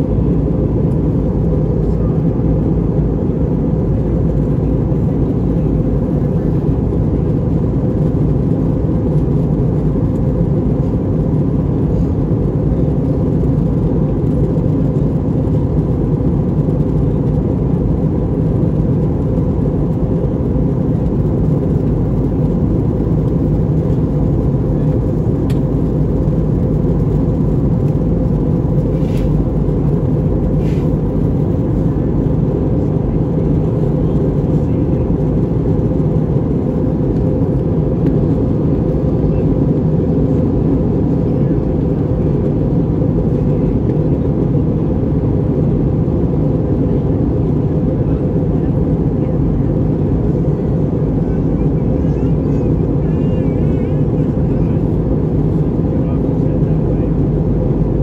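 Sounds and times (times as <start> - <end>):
aircraft cabin engine drone: 0.0 - 58.0.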